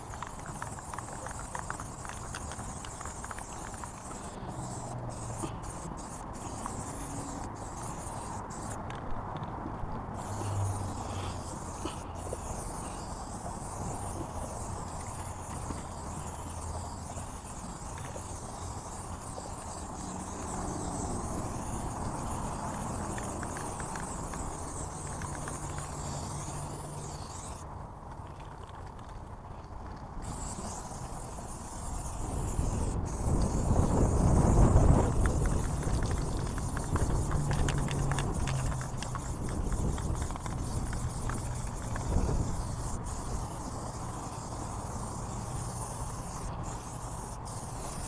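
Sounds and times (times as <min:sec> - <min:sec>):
spray paint can hissing: 0:00.0 - 0:27.7, 0:30.1 - 0:48.0.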